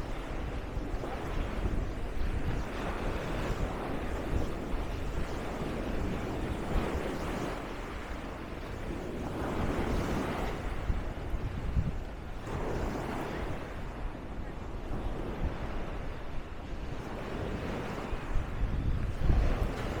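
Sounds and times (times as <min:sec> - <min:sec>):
sea waves on shore: 0:00.0 - 0:20.0
wind buffeting microphone: 0:00.0 - 0:20.0.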